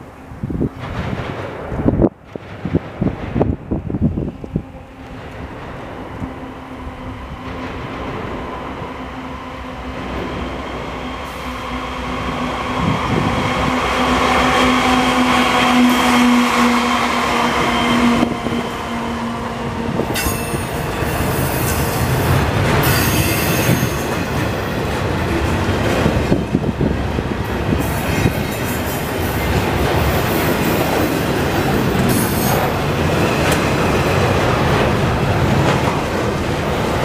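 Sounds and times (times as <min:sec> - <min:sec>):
diesel locomotive engine passing: 0:00.0 - 0:37.0.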